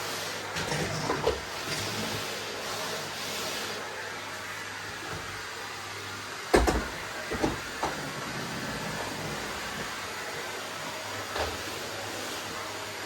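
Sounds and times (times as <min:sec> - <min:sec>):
vacuum cleaner humming: 0:00.0 - 0:13.0.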